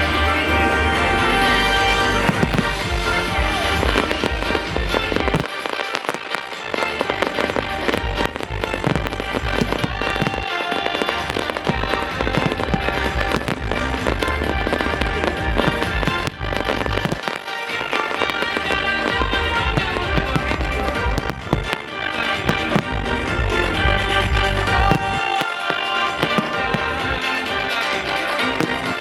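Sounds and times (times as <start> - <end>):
fireworks bangs and crackles: 0.0 - 29.0
loud music with heavy bass: 0.0 - 29.0.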